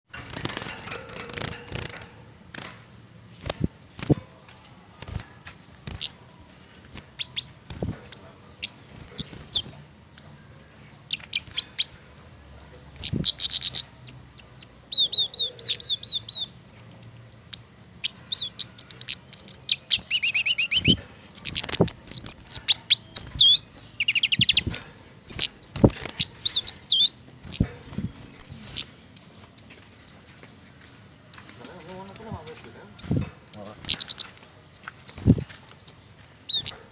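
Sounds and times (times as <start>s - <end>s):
songbird calling and singing: 3.4s - 36.9s.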